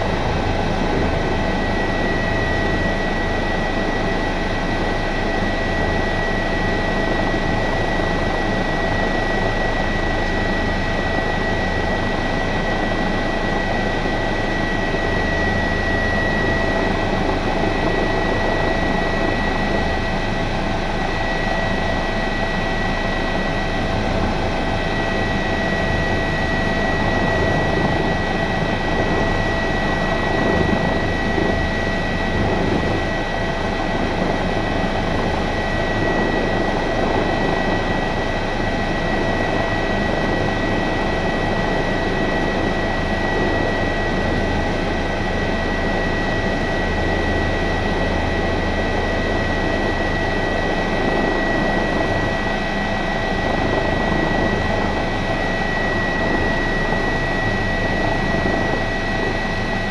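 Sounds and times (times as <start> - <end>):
helicopter turbines and rotors: 0.0 - 59.9.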